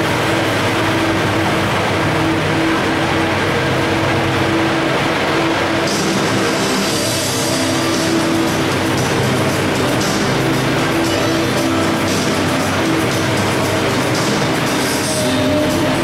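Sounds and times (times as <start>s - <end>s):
distorted rock music over loudspeakers: 0.0s - 16.0s.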